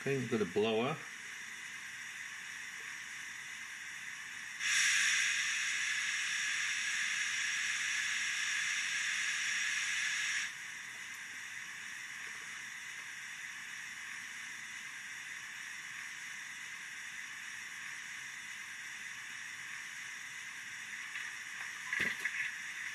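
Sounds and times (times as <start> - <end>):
loud burst of steam hiss: 0.0 - 21.9
steam hiss from small speaker: 0.0 - 22.9.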